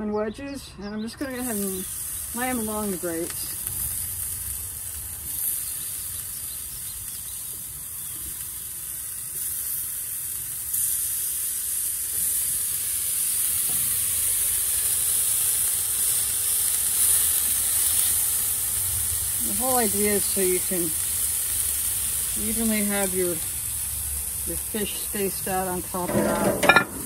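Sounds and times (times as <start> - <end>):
lemon slices sizzling on a grill: 1.2 - 27.0.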